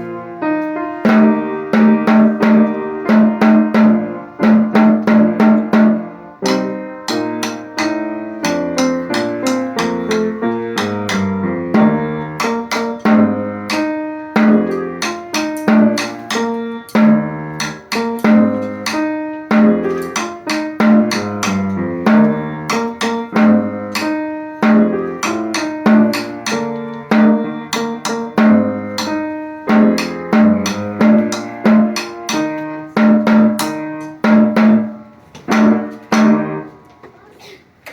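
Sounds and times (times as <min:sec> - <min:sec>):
band melody notes: 0:00.0 - 0:37.0
snare and bass drum beat: 0:01.1 - 0:36.6.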